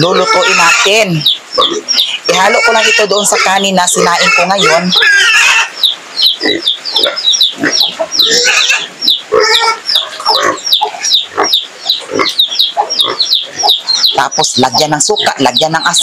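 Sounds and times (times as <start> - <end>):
high bird peeps: 0.0 - 2.6, 4.6 - 16.0
piglets grunting and oinking: 0.0 - 16.0.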